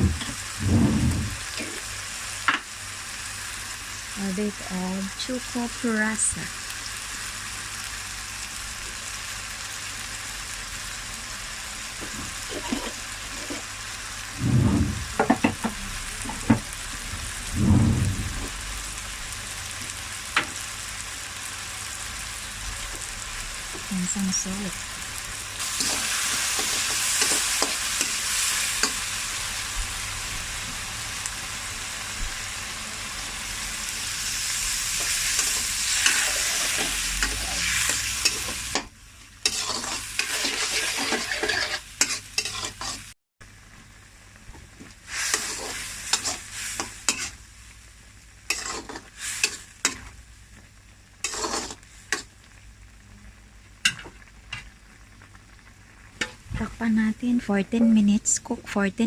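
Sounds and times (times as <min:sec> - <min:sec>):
food sizzling in a hot pan: 0:00.0 - 0:59.0.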